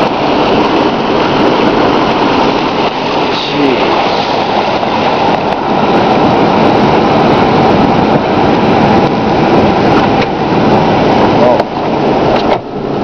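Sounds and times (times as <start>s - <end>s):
floodwater rushing past truck: 0.0s - 13.0s.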